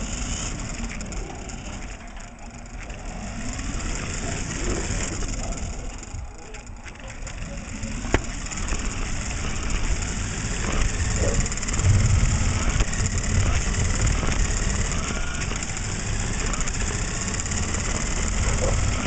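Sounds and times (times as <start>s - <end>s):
toy car electric motor: 0.0s - 19.0s
wheels rolling on wooden floor: 0.0s - 19.0s.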